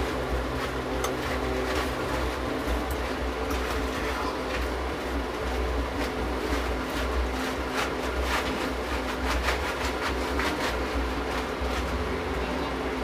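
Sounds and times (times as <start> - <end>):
pot of water boiling: 0.0 - 13.0.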